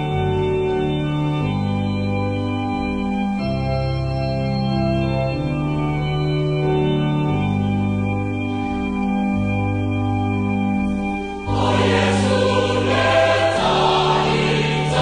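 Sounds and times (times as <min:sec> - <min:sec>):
organ playing held chords: 0:00.0 - 0:15.0.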